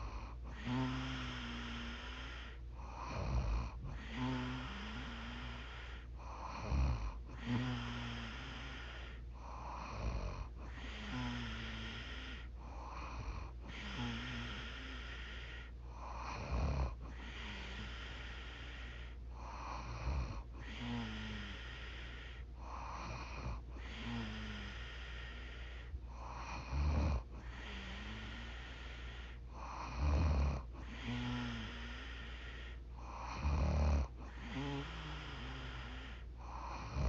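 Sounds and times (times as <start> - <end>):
steady low hum: 0.0 - 37.0
woman snoring: 0.0 - 37.0.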